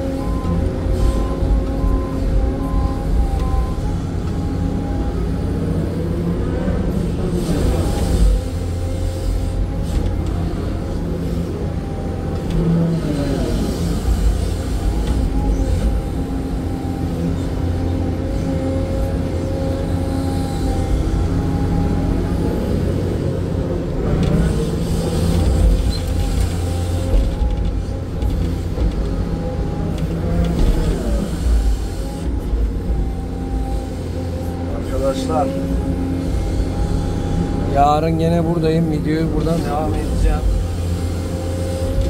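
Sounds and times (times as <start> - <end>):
excavator engine and hydraulic whine: 0.0 - 42.0.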